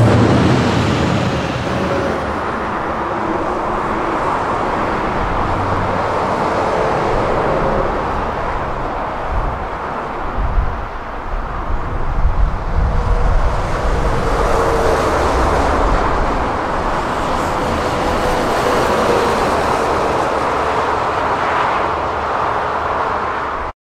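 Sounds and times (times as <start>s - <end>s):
truck engine rumble: 0.0s - 23.2s
tyre and traffic noise: 0.0s - 23.7s.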